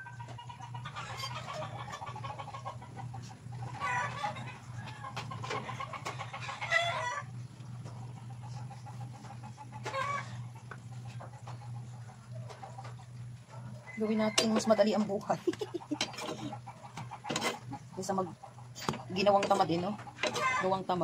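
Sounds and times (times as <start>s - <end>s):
chicken clucking: 0.0s - 20.9s
steady low hum: 0.0s - 21.0s.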